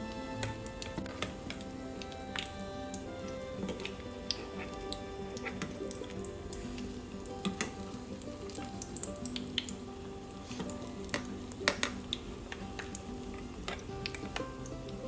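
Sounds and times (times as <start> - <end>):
food deep-frying in oil: 0.0 - 15.0
sharp crackles and pops: 0.0 - 15.0.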